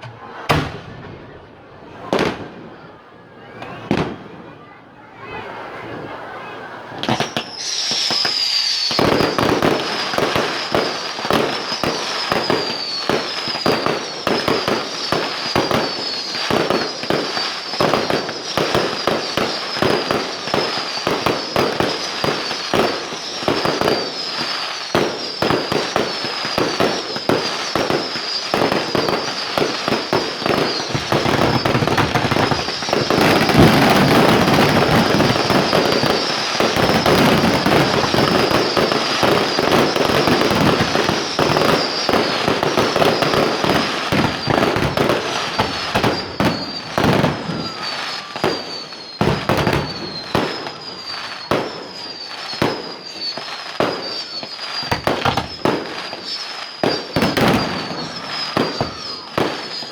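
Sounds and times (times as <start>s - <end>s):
fireworks bangs and crackles: 0.0s - 59.9s
short falling whistle: 7.0s - 59.9s.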